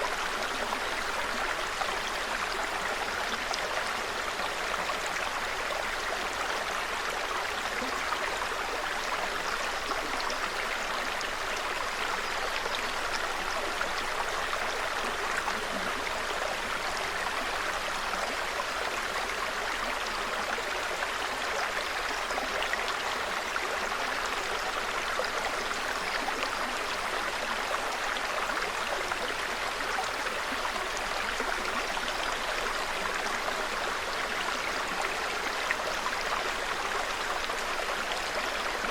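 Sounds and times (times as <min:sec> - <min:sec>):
mountain stream running: 0:00.0 - 0:38.9.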